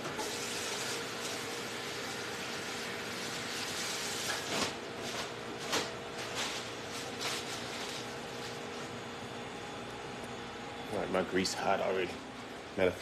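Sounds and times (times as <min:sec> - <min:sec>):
kitchen hiss with faint hum: 0:00.0 - 0:13.0.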